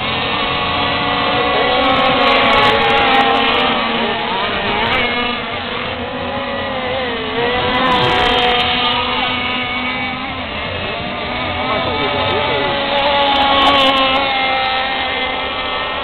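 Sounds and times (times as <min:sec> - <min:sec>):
rc powerboat engines whining: 0:00.0 - 0:16.0.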